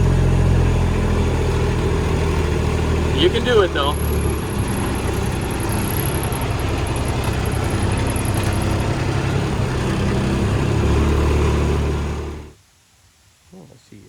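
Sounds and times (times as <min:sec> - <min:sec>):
vehicle engine droning: 0:00.0 - 0:12.6.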